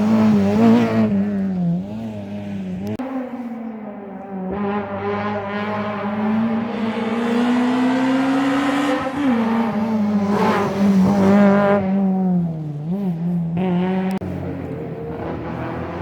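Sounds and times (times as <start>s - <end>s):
rally car engine under load: 0.0s - 16.0s.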